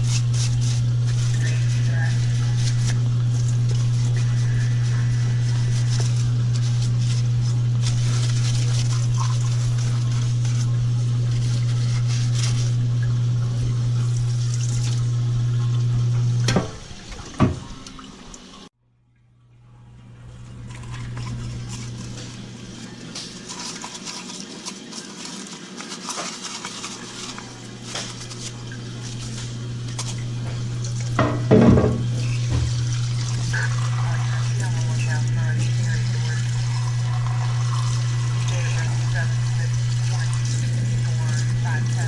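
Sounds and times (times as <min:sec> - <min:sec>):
water running with low hum: 0:00.0 - 0:42.0.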